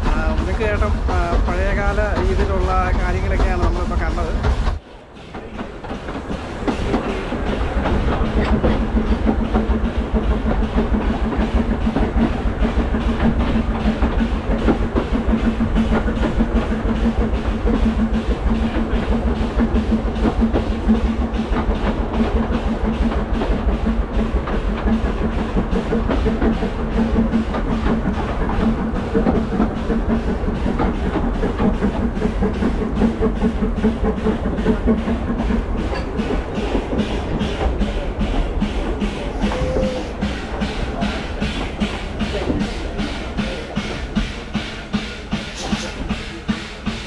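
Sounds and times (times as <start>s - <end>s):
train wheels rattling over track: 0.0s - 47.0s.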